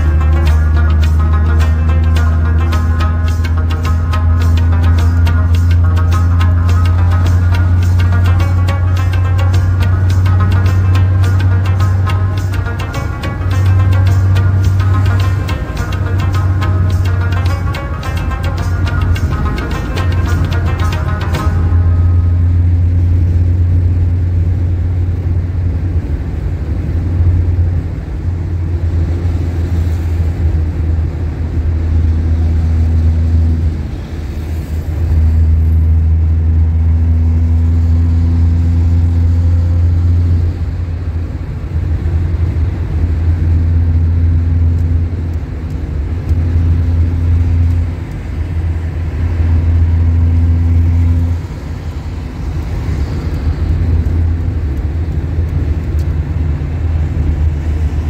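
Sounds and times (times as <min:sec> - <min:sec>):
car interior road noise: 0:00.0 - 0:58.0.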